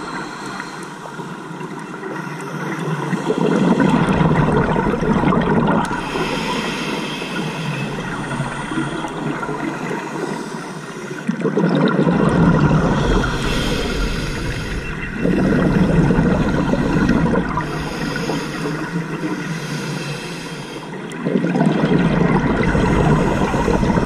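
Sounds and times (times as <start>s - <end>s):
exhaled bubbles rushing underwater: 0.0s - 24.0s.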